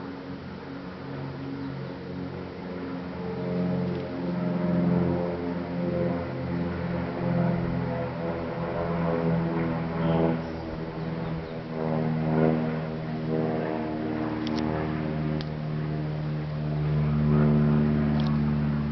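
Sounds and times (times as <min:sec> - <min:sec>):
low motor drone: 0:00.0 - 0:18.9.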